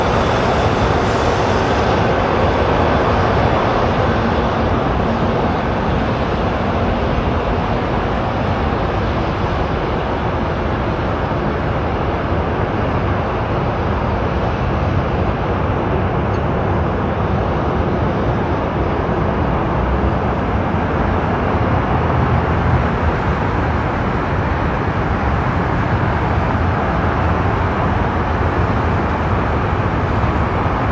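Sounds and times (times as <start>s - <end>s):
aircraft engine rumble: 0.0s - 30.9s.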